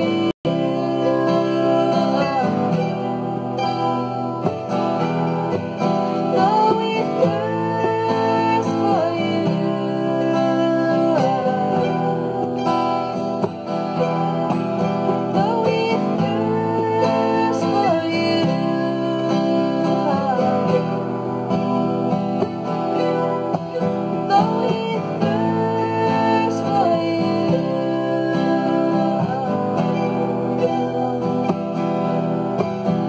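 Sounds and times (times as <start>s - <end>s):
acoustic guitar: 0.0s - 33.0s
mandolin: 0.0s - 33.0s
woman singing: 0.0s - 33.0s.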